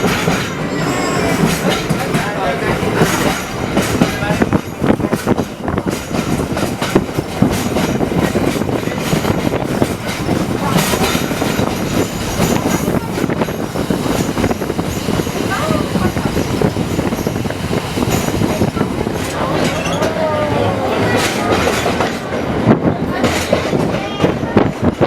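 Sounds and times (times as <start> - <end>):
tram wheels rumbling on rails: 0.0 - 25.0.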